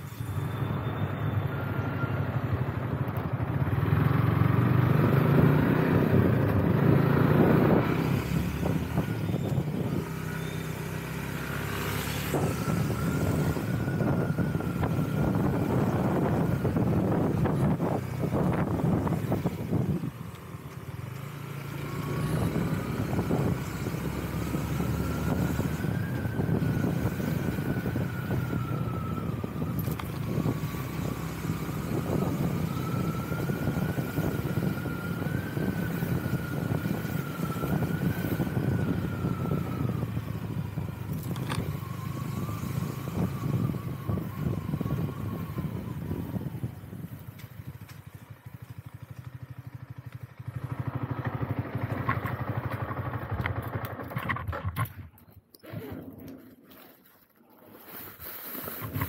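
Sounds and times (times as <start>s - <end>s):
faint engine whine: 0.0s - 57.0s
vehicle engine rumble: 0.0s - 57.4s.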